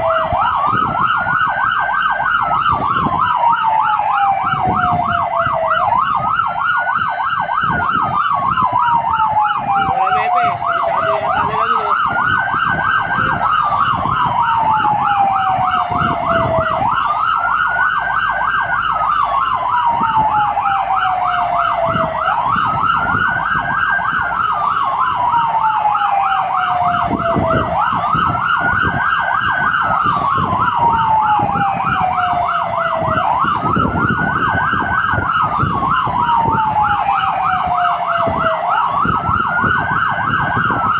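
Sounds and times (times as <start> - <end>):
engine and road noise: 0.0 - 40.9
fire engine siren wailing and yelping: 0.0 - 40.9.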